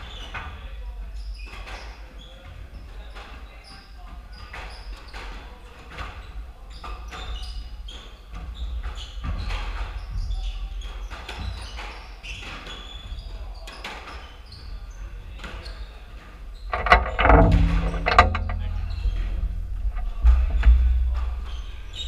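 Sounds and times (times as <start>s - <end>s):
sneakers squeaking on wooden floor: 1.2s - 22.0s.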